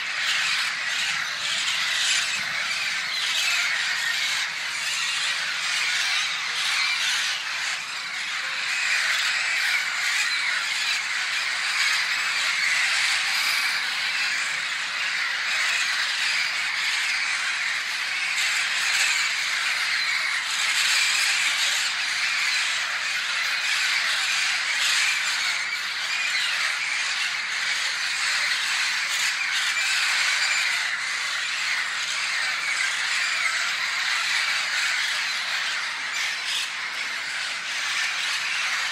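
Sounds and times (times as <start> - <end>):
flock of birds chattering: 0.0 - 38.9.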